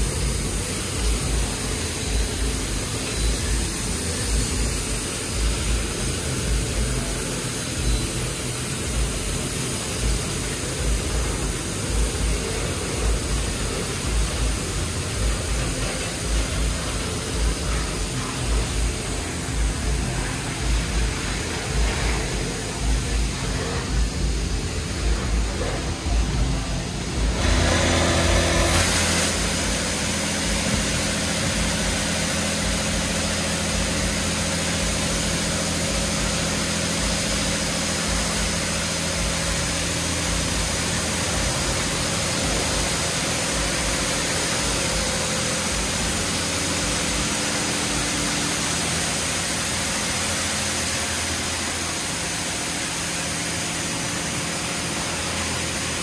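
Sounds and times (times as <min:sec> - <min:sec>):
high-pressure water jets hissing: 0:00.0 - 0:56.0
pump motors humming: 0:00.0 - 0:56.0.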